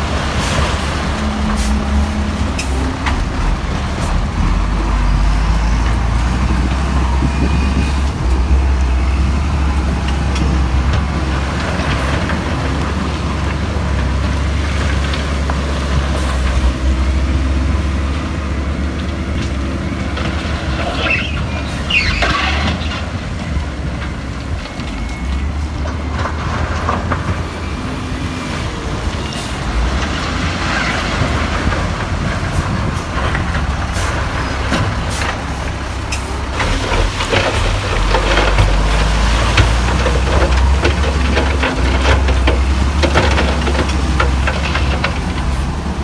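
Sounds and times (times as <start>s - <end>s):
diesel machinery rumbling: 0.0s - 46.0s.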